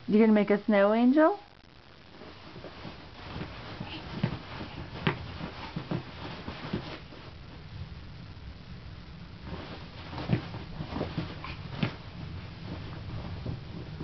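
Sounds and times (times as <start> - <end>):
steady low rumble: 1.5 - 14.0.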